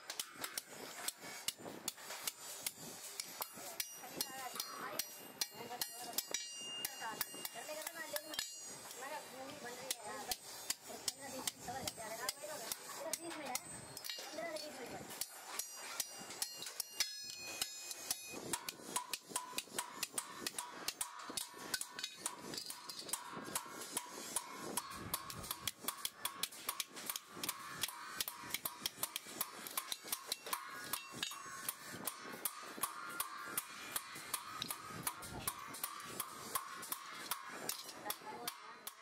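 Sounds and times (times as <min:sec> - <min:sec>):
hammer striking metal: 0:00.1 - 0:09.0, 0:09.8 - 0:39.0.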